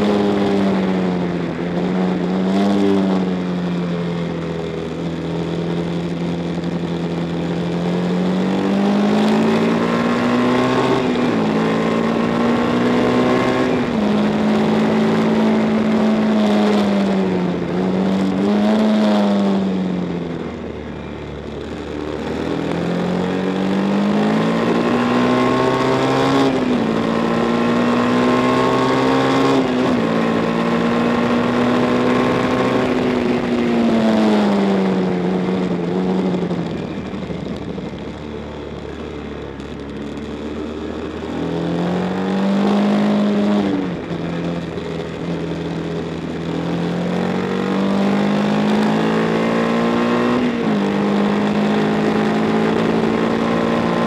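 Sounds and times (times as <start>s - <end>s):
racing motorcycle engine revving: 0.0s - 54.0s.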